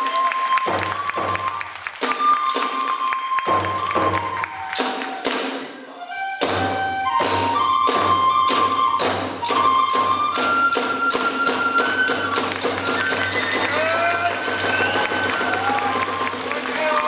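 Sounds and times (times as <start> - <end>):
bamboo flute melody: 0.0 - 17.0
drum beats: 0.0 - 17.0.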